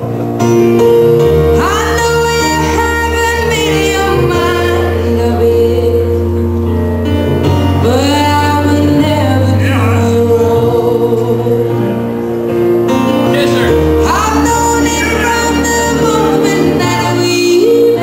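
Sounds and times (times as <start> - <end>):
low steady accompaniment: 0.0 - 18.0
person singing a slow ballad: 0.2 - 18.0.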